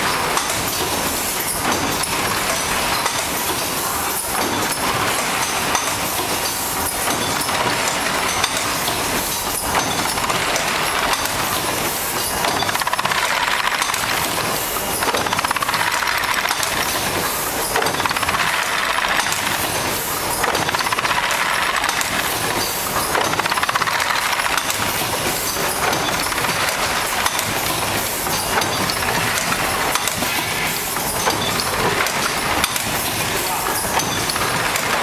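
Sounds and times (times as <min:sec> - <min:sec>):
machine clattering: 0:00.0 - 0:35.0.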